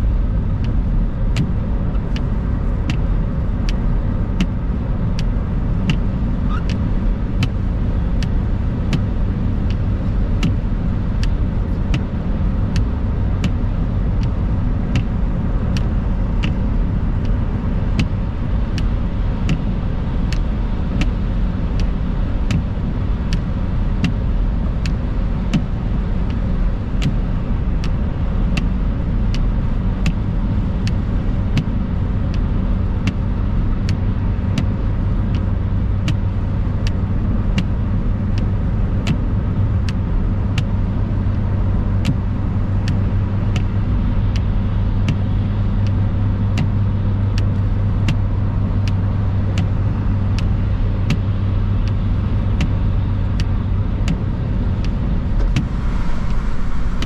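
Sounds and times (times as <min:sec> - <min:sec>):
car tyres and engine rumble: 0:00.0 - 0:57.0
windscreen wiper clicks: 0:00.5 - 0:57.0.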